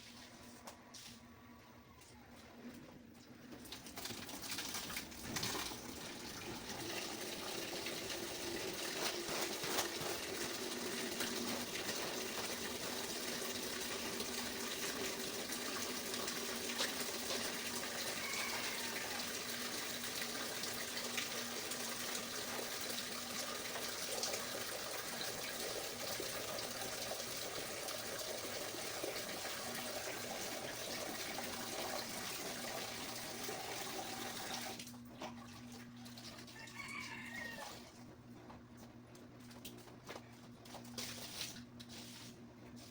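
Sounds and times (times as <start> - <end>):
tap water running: 3.5 - 38.0.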